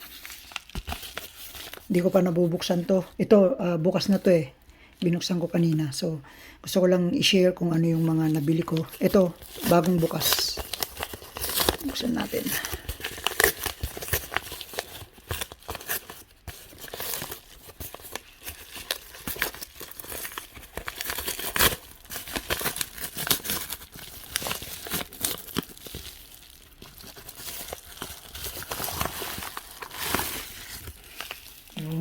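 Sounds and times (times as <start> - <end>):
crinkly wrapping tearing: 0.0 - 2.2, 7.8 - 32.0.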